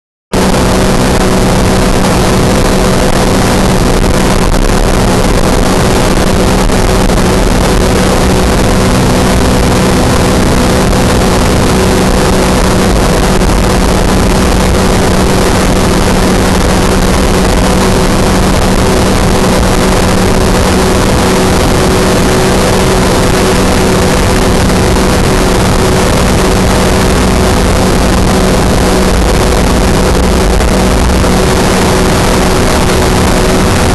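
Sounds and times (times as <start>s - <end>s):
wind rush on microphone: 0.3s - 33.9s
aircraft engine droning: 0.4s - 33.9s.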